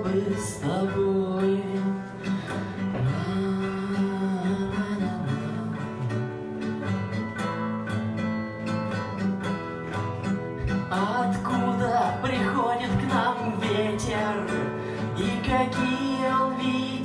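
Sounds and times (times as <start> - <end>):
nylon-string guitar strumming: 0.0 - 17.0.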